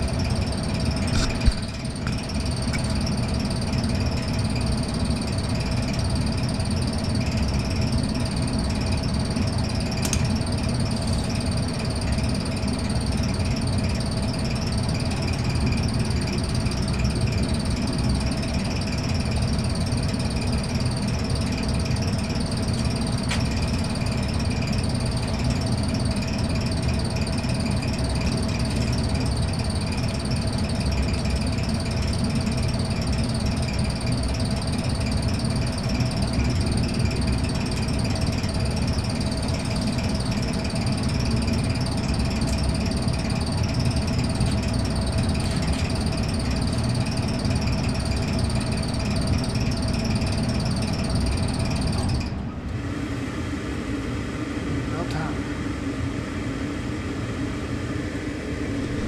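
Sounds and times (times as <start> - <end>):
furnace motor hum: 0.0 - 59.0
high-pitched whine: 0.0 - 59.0.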